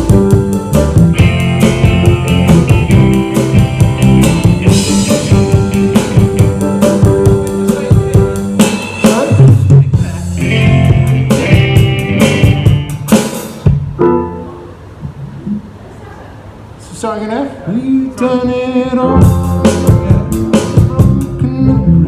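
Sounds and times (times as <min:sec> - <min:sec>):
live rock band playing: 0:00.0 - 0:14.9, 0:19.0 - 0:22.0.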